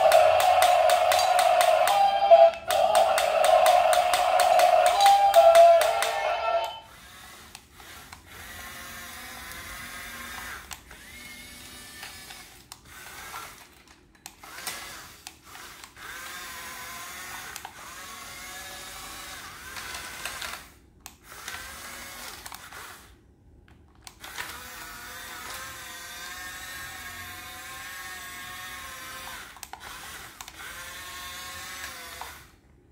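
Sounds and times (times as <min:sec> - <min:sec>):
toy motors whirring: 0:00.0 - 0:23.2, 0:24.0 - 0:32.6.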